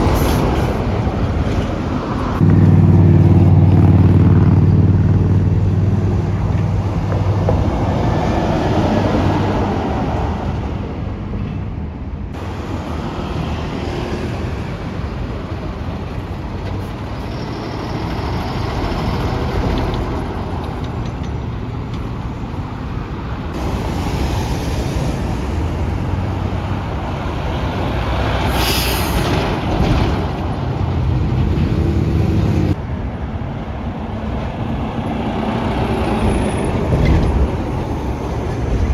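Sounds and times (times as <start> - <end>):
road noise: 0.0 - 38.9
truck diesel engines running: 0.0 - 38.9.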